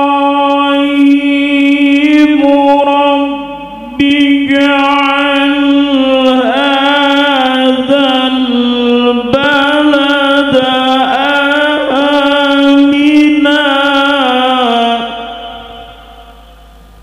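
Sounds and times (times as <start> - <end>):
man reciting melodically into microphone: 0.0 - 16.6.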